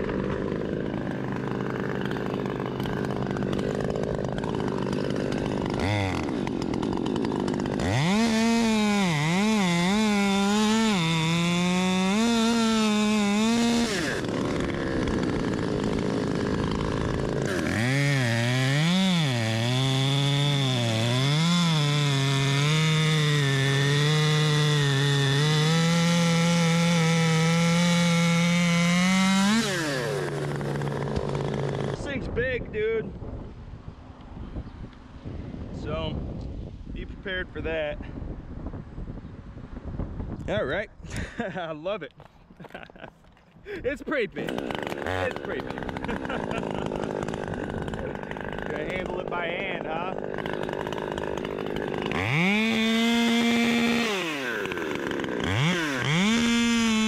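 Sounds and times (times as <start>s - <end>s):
chainsaw idling and cutting wood: 0.0s - 33.0s, 40.4s - 57.0s.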